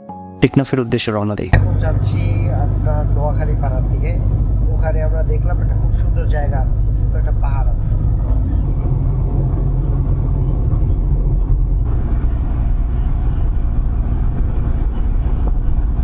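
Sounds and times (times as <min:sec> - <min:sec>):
road noise: 0:01.5 - 0:16.0
vehicle engine rumble: 0:01.5 - 0:16.0.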